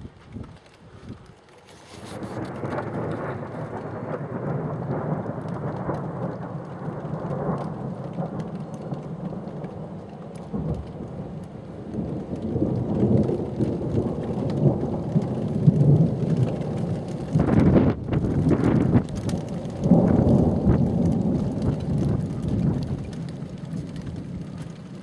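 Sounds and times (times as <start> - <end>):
rain ticking: 0.0 - 25.0
distant thunder rumbling: 2.0 - 25.0.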